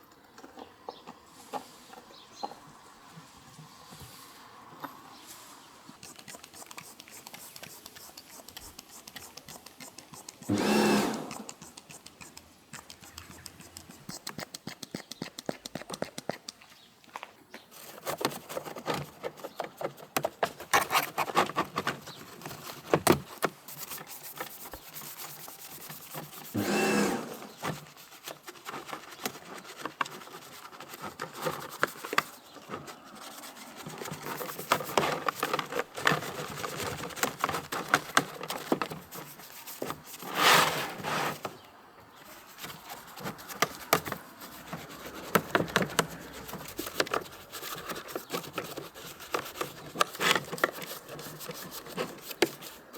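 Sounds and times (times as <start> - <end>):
brush scrubbing: 5.6 - 16.5, 17.8 - 41.6, 42.2 - 52.9.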